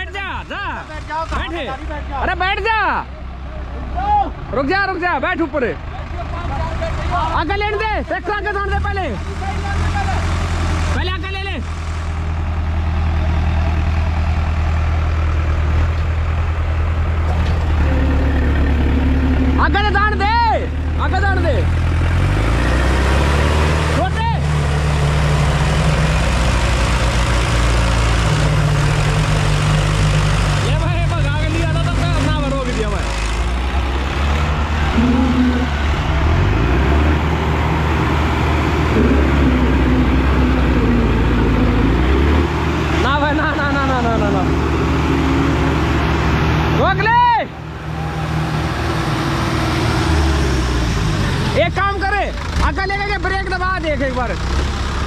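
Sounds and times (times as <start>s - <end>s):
tractor diesel engines droning: 0.0s - 55.0s.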